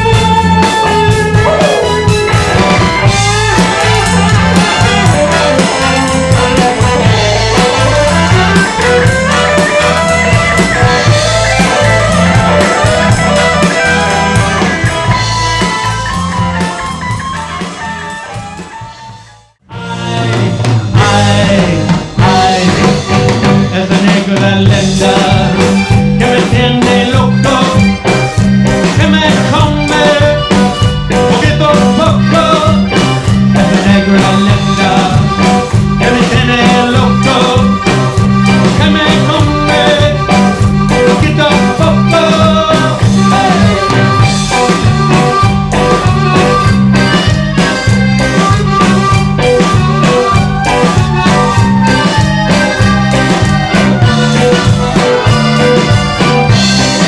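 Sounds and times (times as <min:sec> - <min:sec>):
bass line: 0:00.0 - 0:57.0
drum kit: 0:00.0 - 0:57.0
electric guitar: 0:00.0 - 0:57.0
live band playing: 0:00.0 - 0:57.0.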